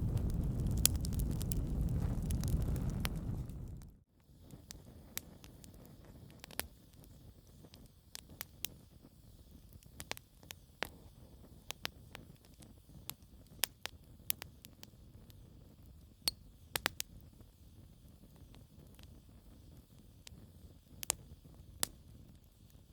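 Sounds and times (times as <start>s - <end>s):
low rumble of burning logs: 0.0s - 22.9s
wood fire crackling and popping: 0.0s - 22.9s.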